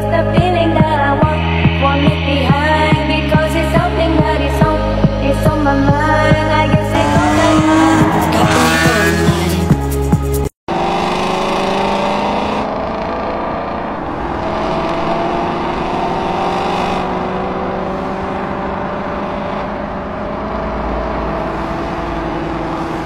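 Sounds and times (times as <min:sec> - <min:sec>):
car engines cruising: 0:00.0 - 0:23.0
road noise: 0:00.0 - 0:23.0.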